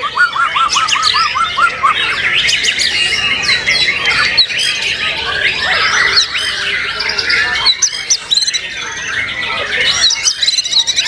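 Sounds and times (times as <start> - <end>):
birds singing whistles and trills: 0.0 - 11.0.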